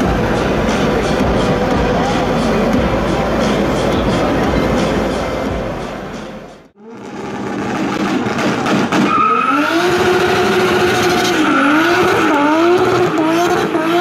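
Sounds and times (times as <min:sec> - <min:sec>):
car engine running: 0:00.0 - 0:14.0
car tyres squealing: 0:00.0 - 0:14.0.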